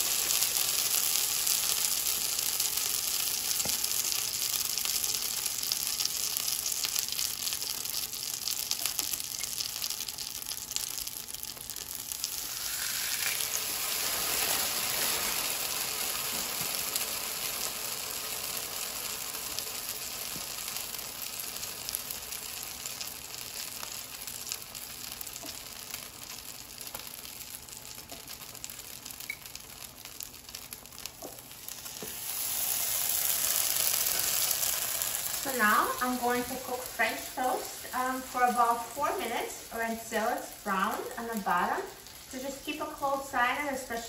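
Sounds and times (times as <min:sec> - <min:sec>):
butter sizzling on a griddle: 0:00.0 - 0:44.0.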